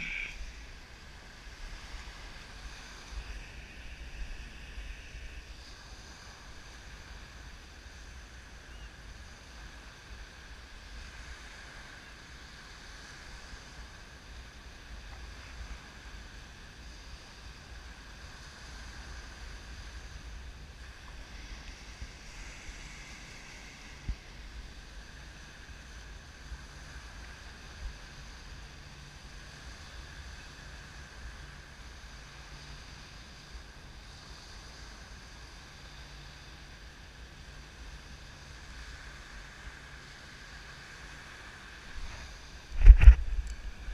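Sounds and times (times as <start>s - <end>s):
small waves breaking on beach: 0.0s - 43.9s
wind rumbling on microphone: 0.0s - 43.9s.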